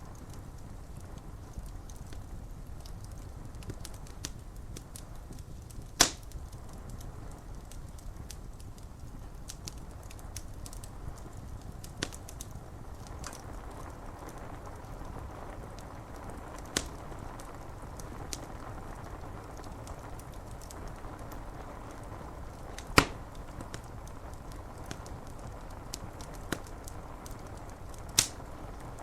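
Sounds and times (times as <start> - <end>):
wood fire crackling and popping: 0.0 - 29.0
rain on window glass: 0.1 - 29.0.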